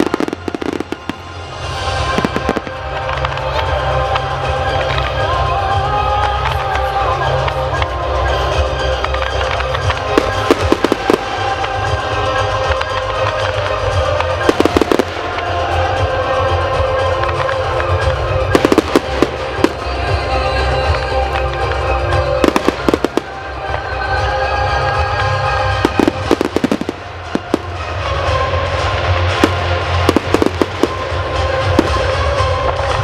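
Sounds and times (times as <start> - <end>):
fireworks bangs and crackles: 0.0 - 33.0
music: 0.0 - 33.0.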